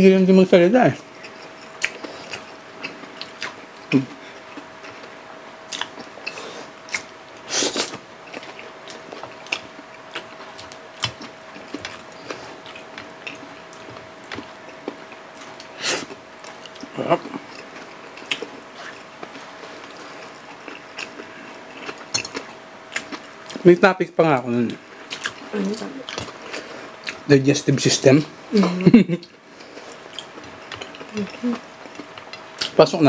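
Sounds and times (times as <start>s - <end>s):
faint steady hum: 0.0s - 33.0s
people chewing and smacking lips: 0.9s - 33.0s.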